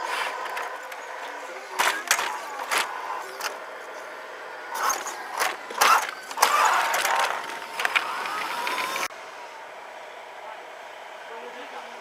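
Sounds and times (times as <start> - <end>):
model truck motor and gearing: 0.0 - 10.6.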